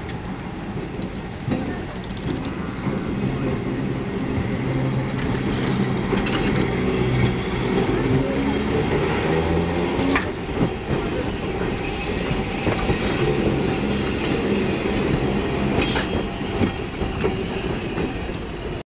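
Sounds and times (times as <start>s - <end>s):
steel wheels rumbling on rail: 0.0s - 18.8s.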